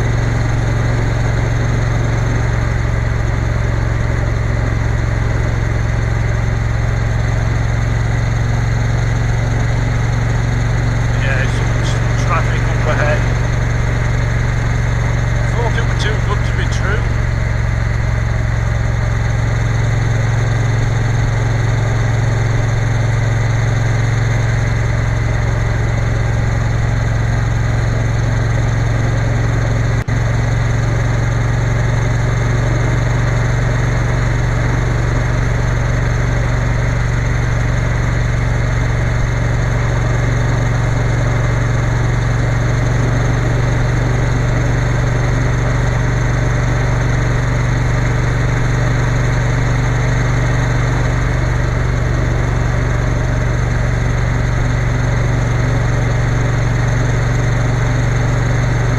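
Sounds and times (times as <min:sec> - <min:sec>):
motorcycle engine cruising: 0:00.0 - 0:58.9.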